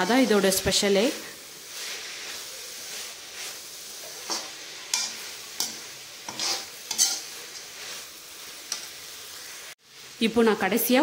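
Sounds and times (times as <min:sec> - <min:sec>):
metal spatula scraping pan: 0:00.0 - 0:09.0
food sizzling in oil: 0:00.0 - 0:11.0.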